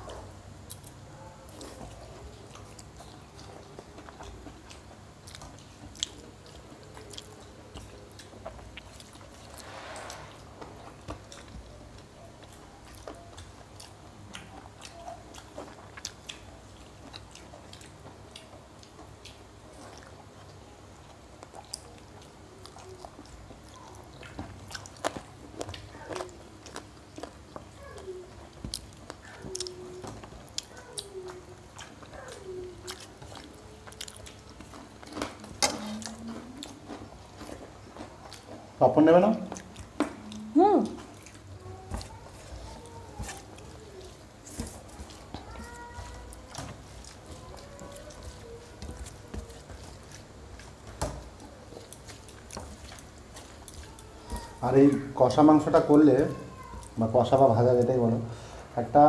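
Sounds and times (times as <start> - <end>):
chewing and mouth smacks: 0.6 - 38.8, 39.5 - 54.6.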